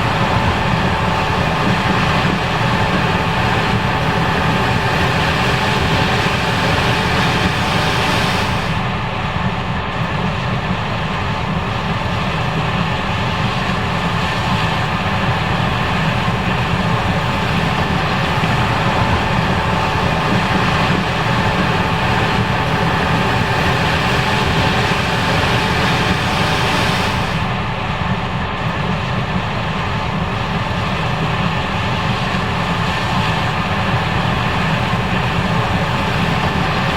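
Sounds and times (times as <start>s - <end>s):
combine harvester engine drone: 0.0s - 36.9s.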